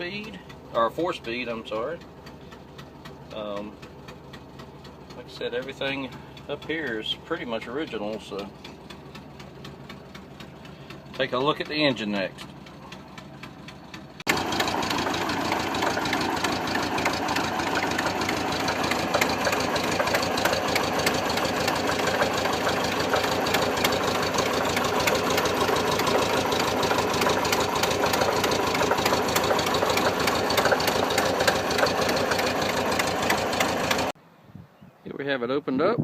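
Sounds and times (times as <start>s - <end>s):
engine running with clatter: 0.0s - 34.2s.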